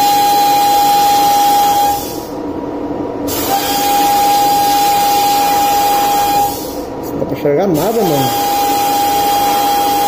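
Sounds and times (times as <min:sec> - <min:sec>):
sandblasting gun hissing: 0:00.0 - 0:02.4, 0:03.3 - 0:06.9, 0:07.8 - 0:10.0.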